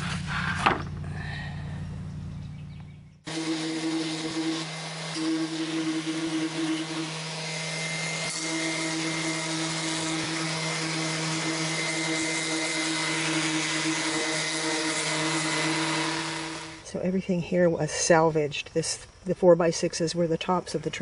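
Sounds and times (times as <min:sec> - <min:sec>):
small motor humming: 0:00.0 - 0:16.9.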